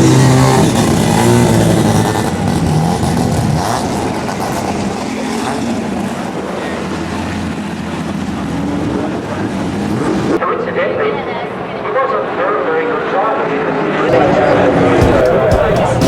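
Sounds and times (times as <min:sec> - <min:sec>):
racing car passing: 0:00.0 - 0:16.0.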